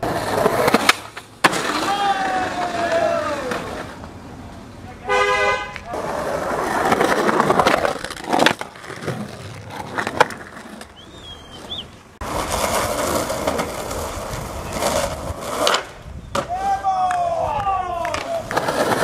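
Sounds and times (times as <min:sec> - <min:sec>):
skateboard clacking on ground: 0:00.0 - 0:04.8, 0:05.7 - 0:11.0, 0:11.6 - 0:19.0
skateboard wheels rolling on concrete: 0:00.0 - 0:19.0.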